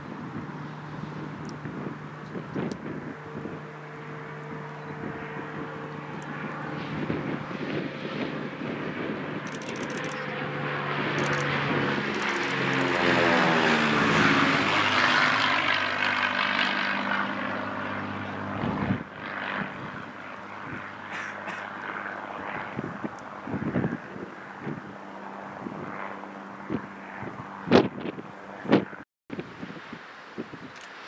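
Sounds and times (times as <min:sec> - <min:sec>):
propeller airplane passing overhead: 0:00.0 - 0:31.0.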